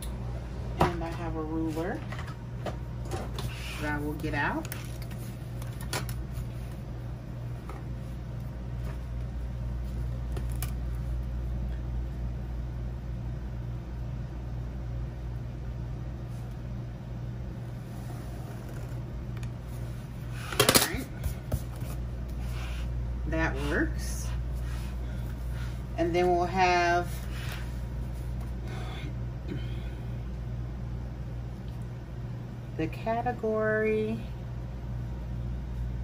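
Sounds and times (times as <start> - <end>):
low hum of room noise: 0.0 - 36.0.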